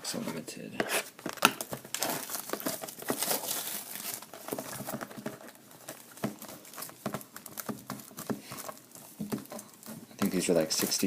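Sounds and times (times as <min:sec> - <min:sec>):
plastic wrapping crinkling: 0:00.9 - 0:11.0.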